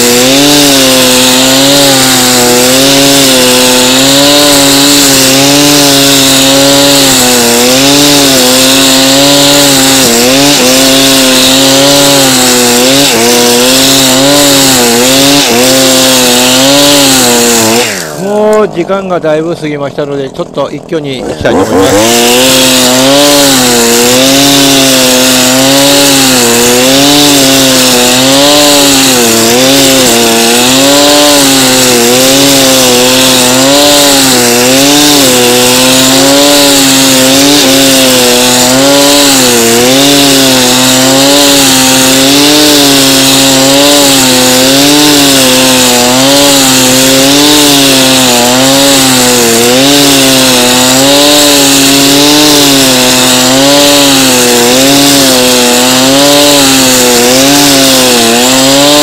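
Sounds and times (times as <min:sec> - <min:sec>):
brush cutter cutting grass: 0:00.0 - 0:59.0.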